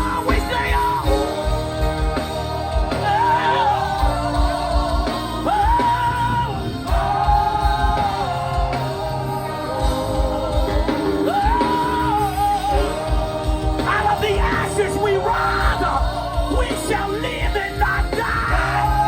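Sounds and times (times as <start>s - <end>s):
band with steady low beat: 0.0s - 19.0s.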